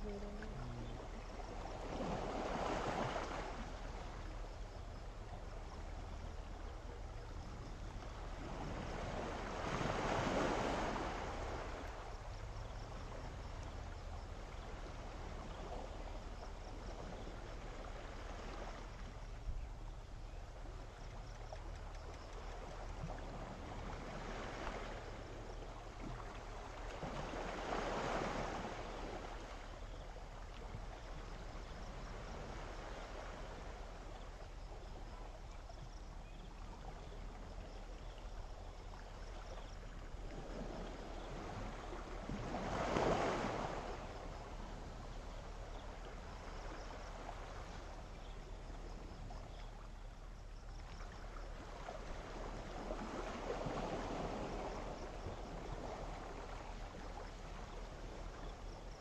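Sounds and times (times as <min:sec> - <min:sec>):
small waves washing on shore: 0:00.0 - 0:59.0.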